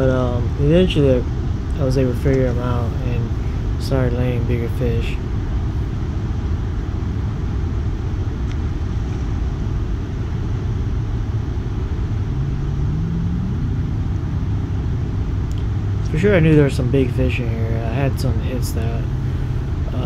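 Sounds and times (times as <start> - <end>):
engine hum: 0.0 - 20.0.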